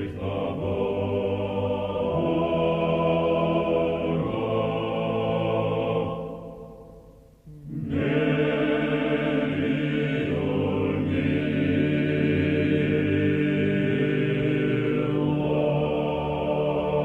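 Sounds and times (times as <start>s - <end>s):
choral chanting: 0.0s - 17.0s.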